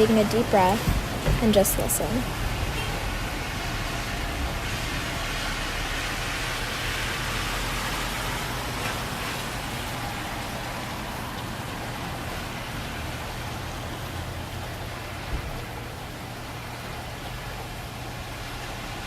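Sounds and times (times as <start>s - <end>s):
heavy rain falling: 0.0s - 19.0s
car tyres hissing on wet road: 1.9s - 19.0s.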